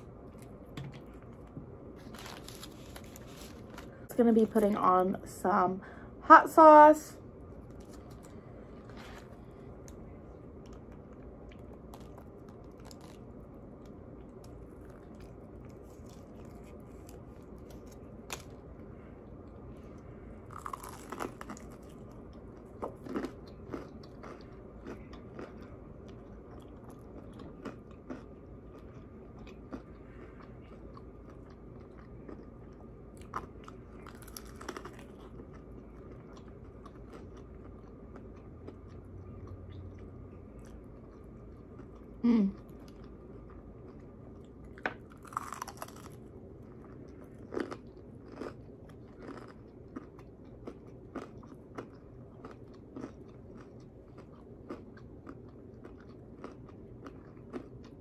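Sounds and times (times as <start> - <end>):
chewing crispy fried chicken: 7.4 - 58.0.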